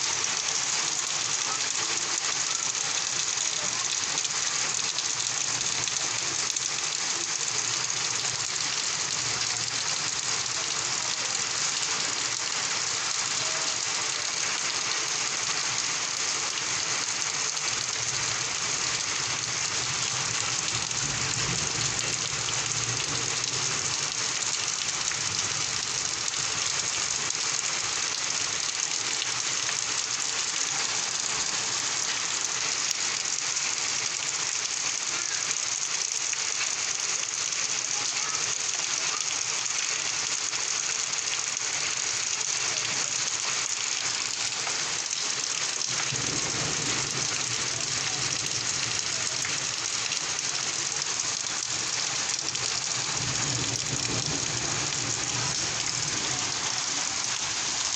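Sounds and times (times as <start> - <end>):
rain pouring: 0.0 - 57.9.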